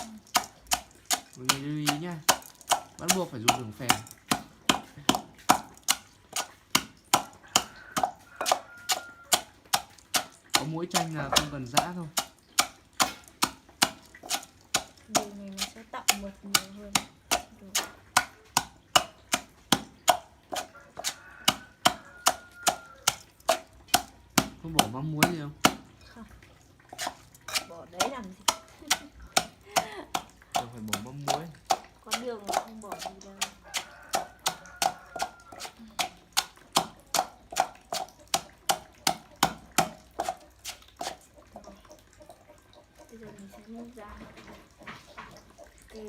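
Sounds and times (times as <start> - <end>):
pestle pounding in mortar: 0.0 - 26.2, 26.8 - 41.7.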